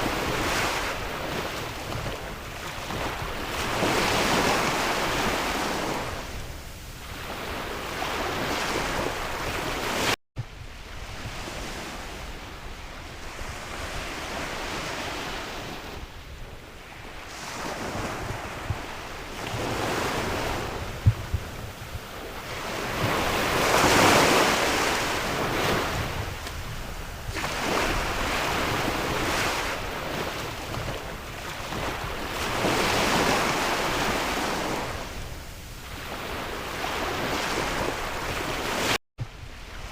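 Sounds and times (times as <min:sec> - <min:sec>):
sea waves breaking: 0:00.0 - 0:10.2, 0:10.9 - 0:16.1, 0:16.8 - 0:39.9
wind rumbling on microphone: 0:00.0 - 0:39.9.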